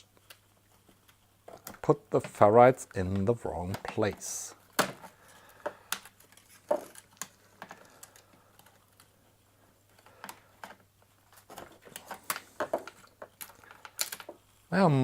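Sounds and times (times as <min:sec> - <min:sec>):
plastic parts clicking and tapping: 0:00.0 - 0:09.2, 0:09.8 - 0:14.5.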